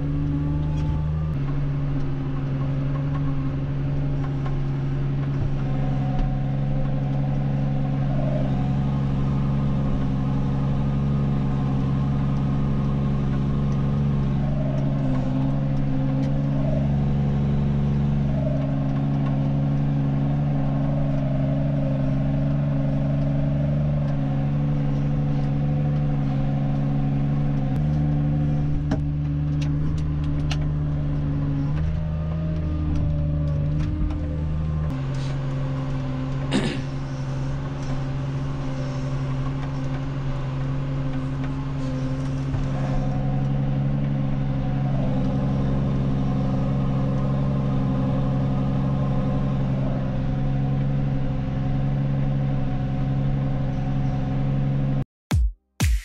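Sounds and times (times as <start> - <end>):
tractor engine droning: 0.0 - 54.9.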